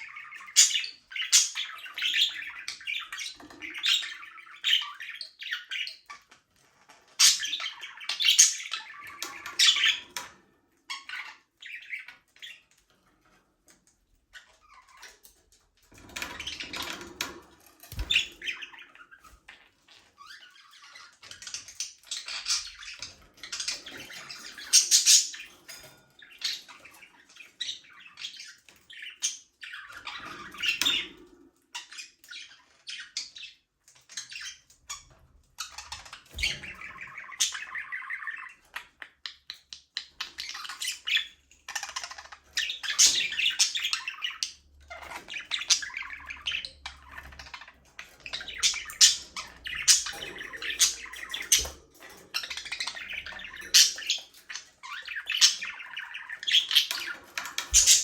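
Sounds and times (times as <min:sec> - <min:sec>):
budgerigars chattering and chirping: 0:00.0 - 0:13.4, 0:14.2 - 0:58.0.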